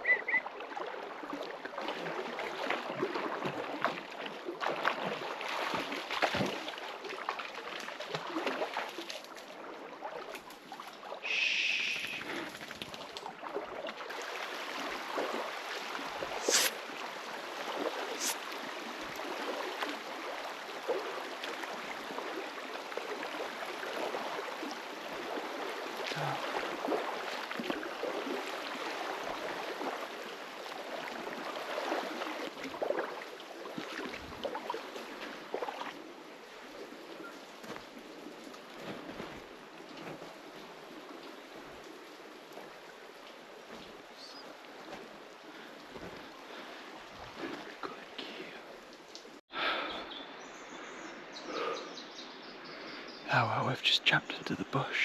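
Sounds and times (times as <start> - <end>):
wading steps splashing water: 0.0 - 49.9
stream running: 0.0 - 55.0.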